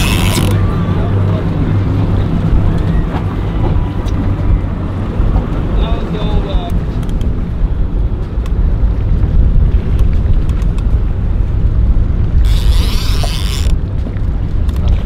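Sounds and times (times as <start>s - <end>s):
outboard motors rumbling: 0.0s - 15.0s
wind buffeting microphone: 0.0s - 15.0s.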